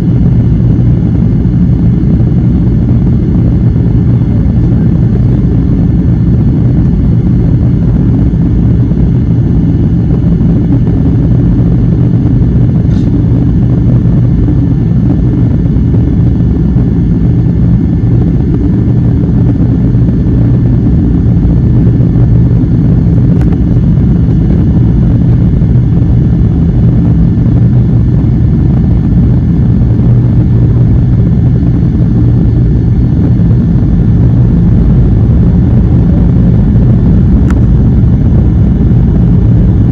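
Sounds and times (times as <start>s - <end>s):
airliner engine drone: 0.0s - 39.9s.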